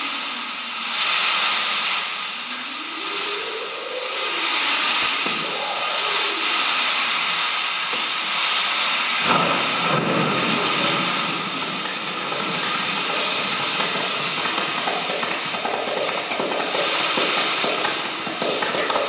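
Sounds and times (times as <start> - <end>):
loud steady hissing: 0.0 - 19.0
low rushing noise: 2.4 - 19.0.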